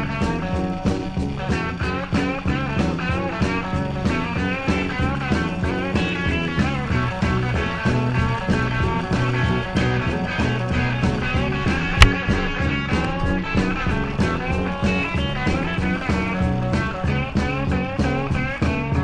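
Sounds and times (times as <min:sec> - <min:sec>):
electric guitar rock music: 0:00.0 - 0:19.0
steady drum beat: 0:00.0 - 0:19.0.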